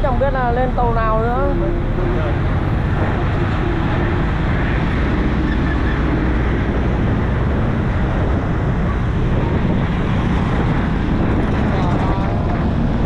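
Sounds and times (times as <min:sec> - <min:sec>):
bus rumbling: 0:00.0 - 0:13.0
traffic noise: 0:00.0 - 0:13.0
wind on microphone: 0:00.0 - 0:13.0.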